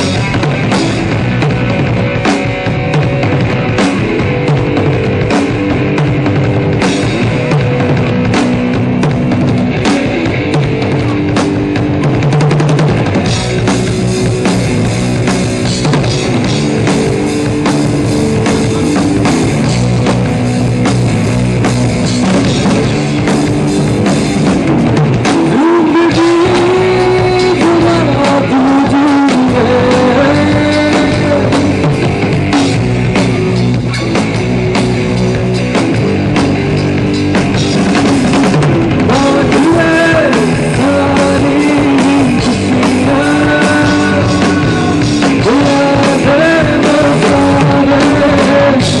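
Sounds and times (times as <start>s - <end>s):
band holding pitched notes: 0.0s - 49.0s
drum kit rock groove: 0.0s - 49.0s.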